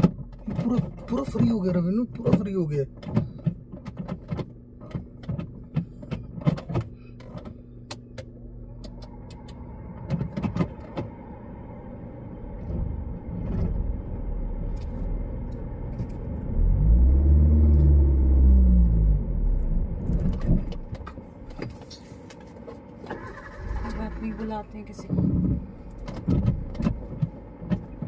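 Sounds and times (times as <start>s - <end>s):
car engine running and revving: 0.0s - 28.0s.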